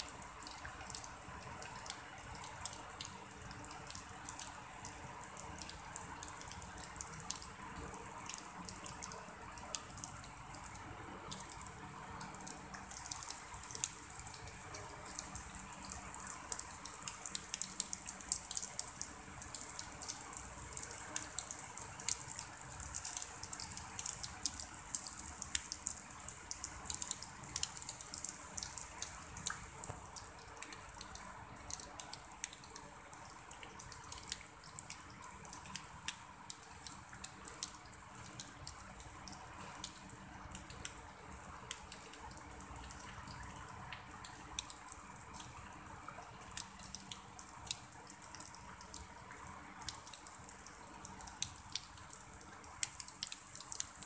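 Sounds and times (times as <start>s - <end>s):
drizzle on pond and grass: 0.0s - 54.0s.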